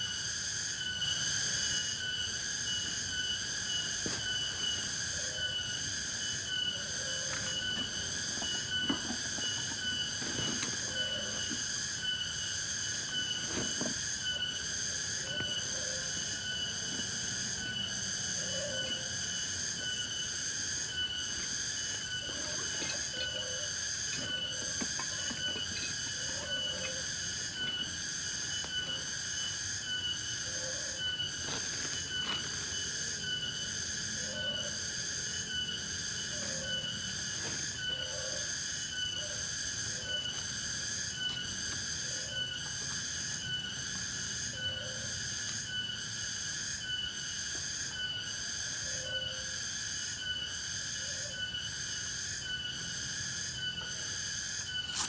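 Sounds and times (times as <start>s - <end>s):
short lower insect call: 0.0s - 55.0s
shrill pulsing insect call: 0.0s - 55.0s.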